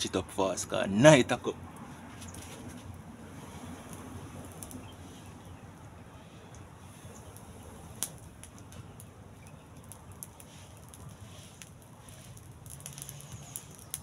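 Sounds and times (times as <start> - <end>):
wood fire crackling and popping: 1.0 - 14.0.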